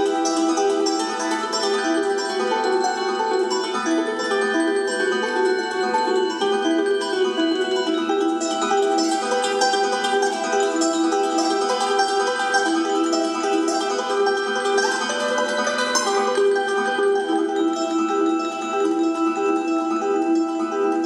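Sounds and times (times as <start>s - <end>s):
rapid plucked string instruments: 0.0s - 21.0s.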